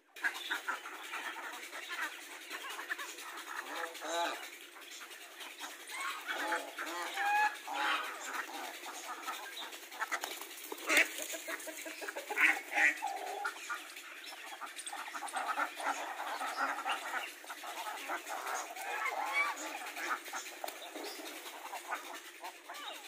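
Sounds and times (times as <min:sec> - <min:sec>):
ducks quacking: 0:00.0 - 0:23.0.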